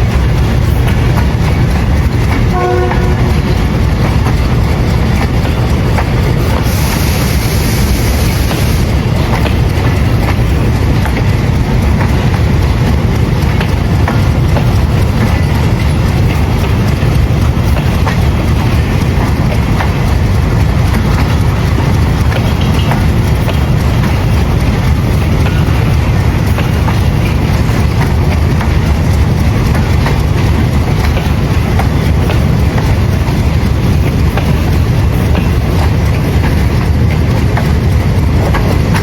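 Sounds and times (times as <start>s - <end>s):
wheels clacking over rail joints: 0.0s - 6.8s, 8.2s - 39.0s
train wheels rumbling on rail: 0.0s - 39.0s.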